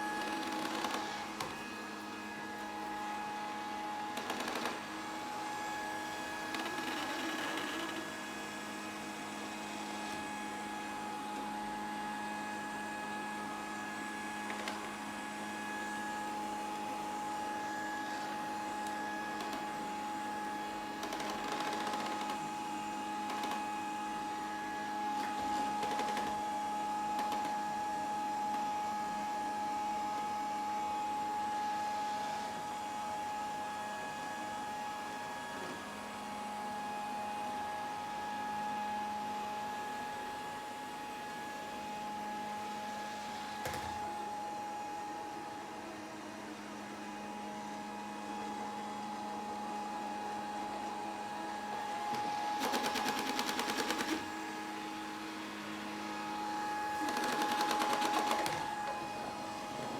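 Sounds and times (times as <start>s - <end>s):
robot vacuum motor whine: 0.0s - 36.6s, 45.1s - 59.9s.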